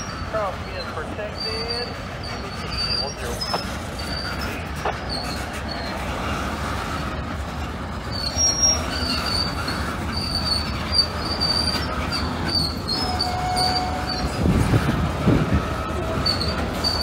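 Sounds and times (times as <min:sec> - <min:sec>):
freight train rumbling: 0:00.0 - 0:17.0
train wheels squealing on rails: 0:00.0 - 0:17.0.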